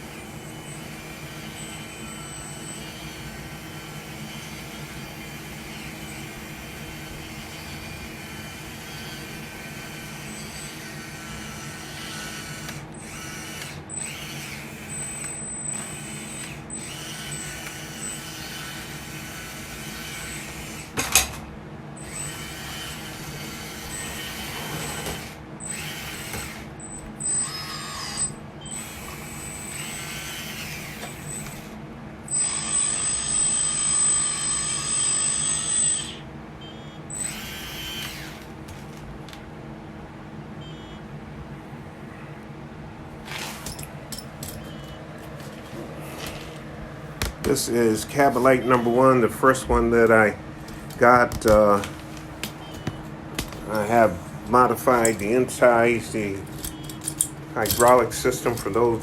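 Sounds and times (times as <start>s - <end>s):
hydraulic pump whir: 0.0s - 59.0s
motor whine: 0.0s - 59.0s.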